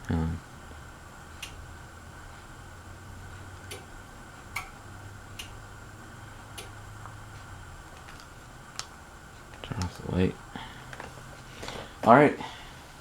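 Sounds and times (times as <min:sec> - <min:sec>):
ceiling fan motor hum: 0:00.0 - 0:13.0
fan ticking: 0:00.0 - 0:13.0.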